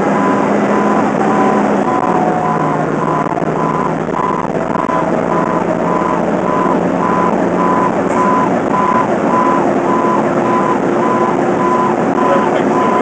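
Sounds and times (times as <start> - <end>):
engine and road drone: 0.0 - 13.0
electronic beeper: 0.1 - 13.0.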